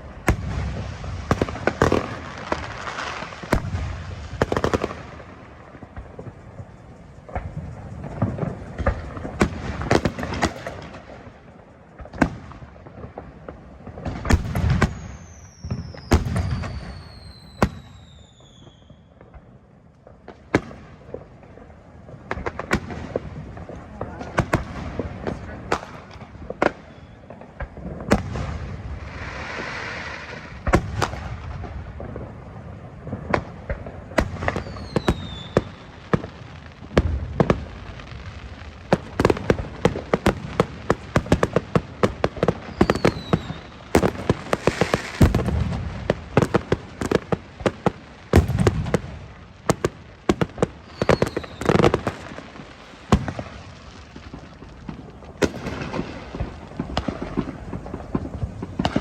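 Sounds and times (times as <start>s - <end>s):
falling firework whistles: 0.0s - 59.0s
firework bangs and booms: 0.0s - 59.0s
firework crackling: 0.0s - 59.0s.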